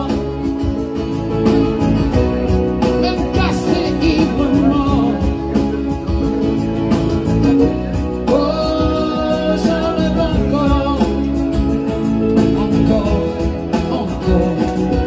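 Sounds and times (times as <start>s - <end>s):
song with singing and guitar: 0.0s - 15.0s.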